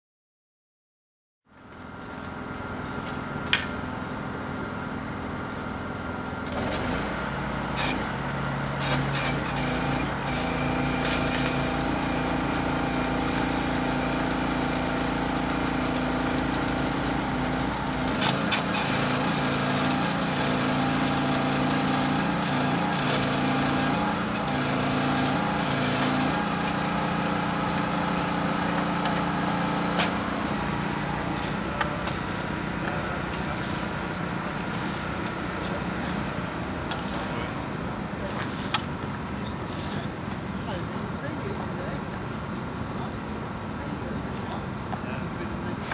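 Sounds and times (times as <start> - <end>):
small engine running: 1.5 - 45.9.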